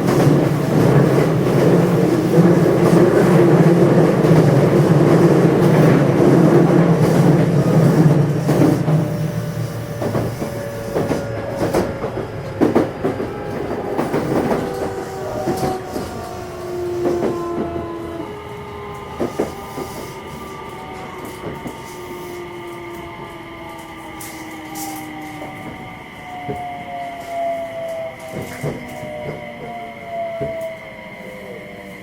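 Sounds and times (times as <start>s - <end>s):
train inverter and motor whine: 0.0s - 32.0s.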